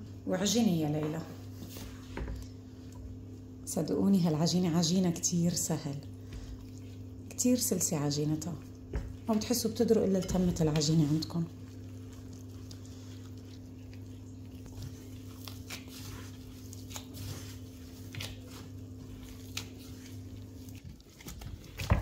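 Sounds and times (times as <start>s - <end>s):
steady low hum: 0.0s - 20.9s
dough squishing: 0.6s - 22.0s.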